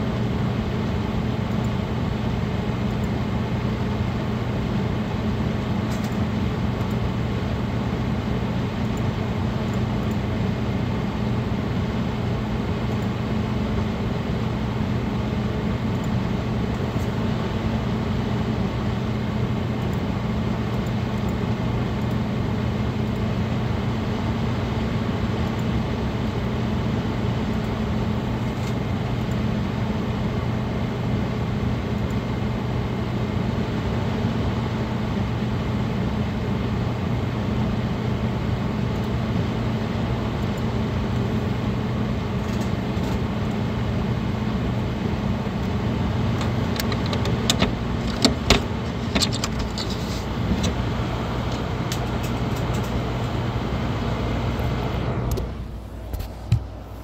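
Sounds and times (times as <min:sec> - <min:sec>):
computer fans whirring: 0:00.0 - 0:57.0.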